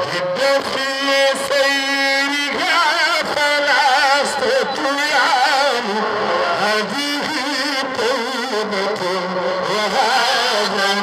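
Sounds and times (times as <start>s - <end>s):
man singing a religious chant: 0.0s - 11.0s.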